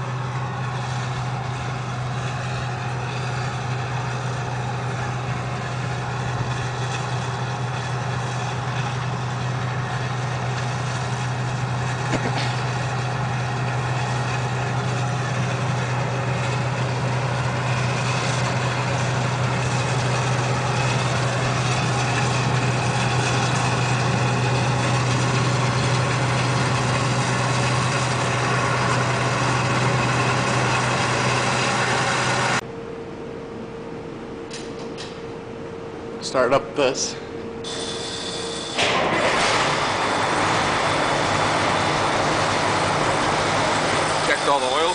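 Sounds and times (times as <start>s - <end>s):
heavy engine idling: 0.0s - 32.7s, 37.0s - 44.9s.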